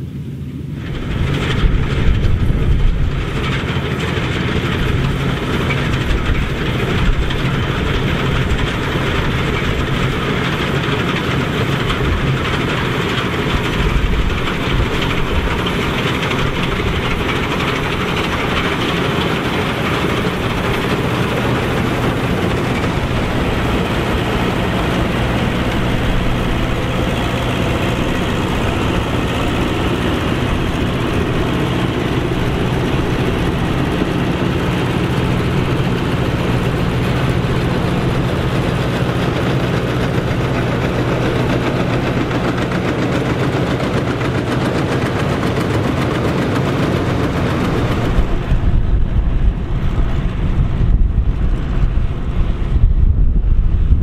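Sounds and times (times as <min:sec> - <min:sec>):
combine harvester engine running: 0:00.0 - 0:54.0
cutting and threshing mechanism noise: 0:00.7 - 0:53.0.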